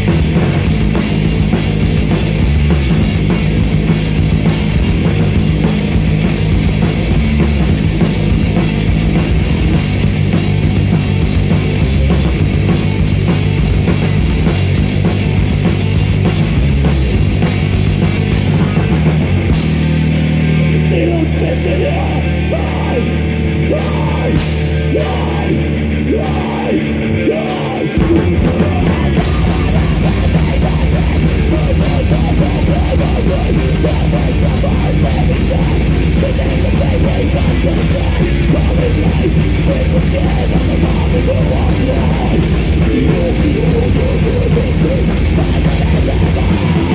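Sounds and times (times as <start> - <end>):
heavy metal band playing live: 0.0 - 46.9.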